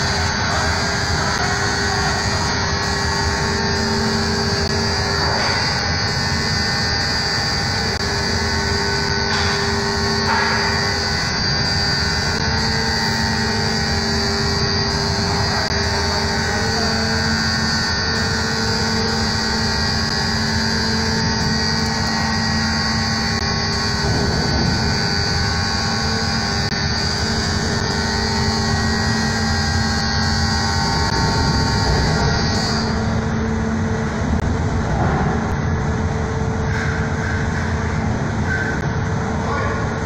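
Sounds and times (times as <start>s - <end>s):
loud mechanical drone of engines: 0.0s - 40.0s.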